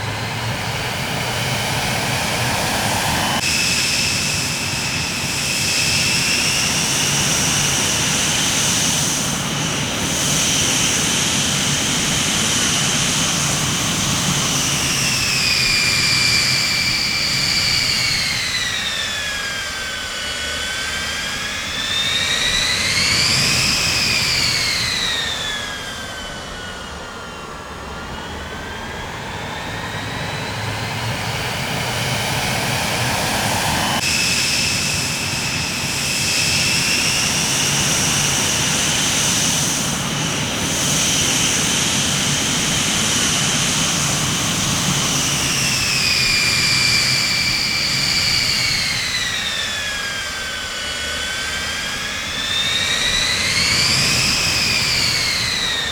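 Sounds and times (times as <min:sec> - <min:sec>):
jet engines whining: 0:00.0 - 0:55.9.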